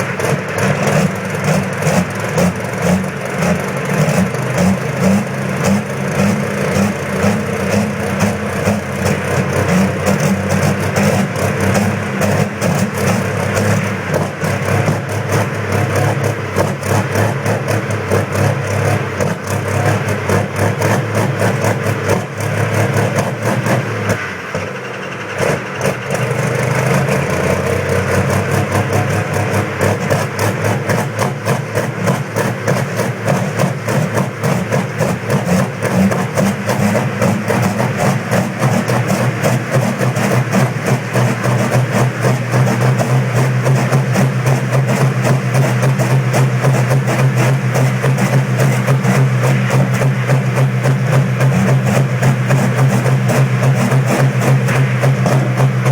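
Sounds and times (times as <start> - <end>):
diesel engine knocking clatter: 0.0 - 55.9.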